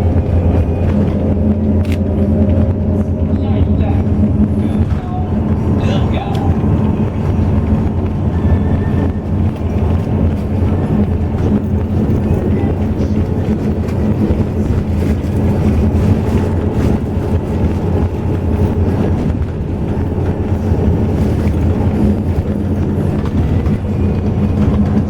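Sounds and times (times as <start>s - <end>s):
coach engine and road drone: 0.0s - 25.0s.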